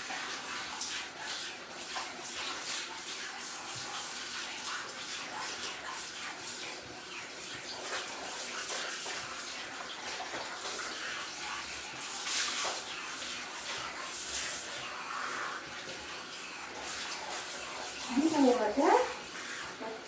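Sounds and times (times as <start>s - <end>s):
shower water spraying: 0.0s - 20.0s.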